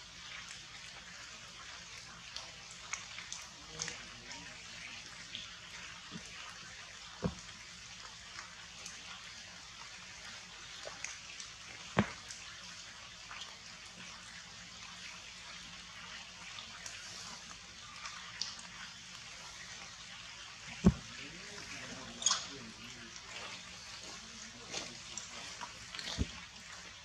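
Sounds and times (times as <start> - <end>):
rain falling on leaves: 0.0 - 27.0
water drips: 0.0 - 27.0.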